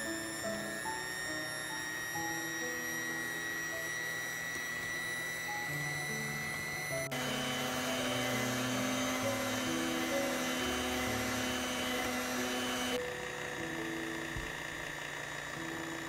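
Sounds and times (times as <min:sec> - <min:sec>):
electric hand mixer running: 0:00.0 - 0:16.0
light background music: 0:00.0 - 0:16.0.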